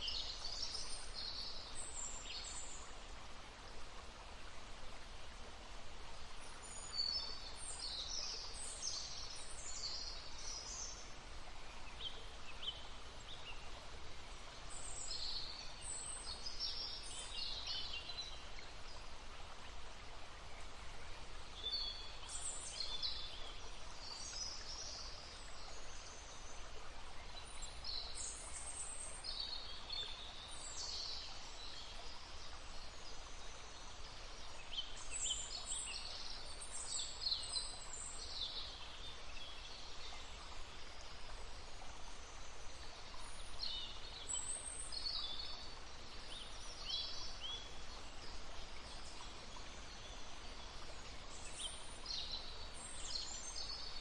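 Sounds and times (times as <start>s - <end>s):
babbling brook: 0.0s - 54.0s.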